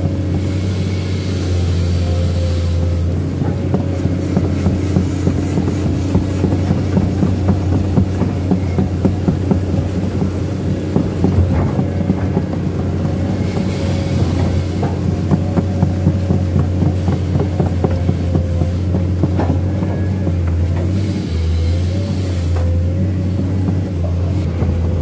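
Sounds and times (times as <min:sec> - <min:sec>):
excavator diesel engine running: 0:00.0 - 0:25.0
knocks and clanks: 0:03.1 - 0:21.7, 0:22.4 - 0:25.0.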